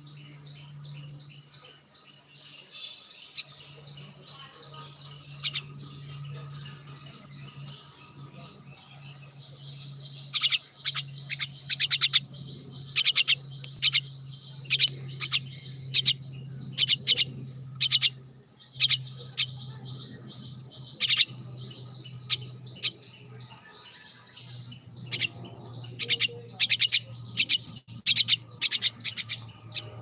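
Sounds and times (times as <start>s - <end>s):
bird chirping: 0.0s - 30.0s
steady low hum: 0.0s - 30.0s.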